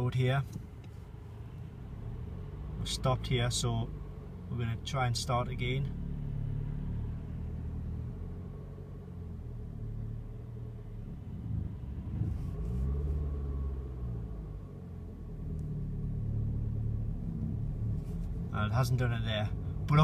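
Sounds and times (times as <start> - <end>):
car engine revving: 1.7 - 20.0.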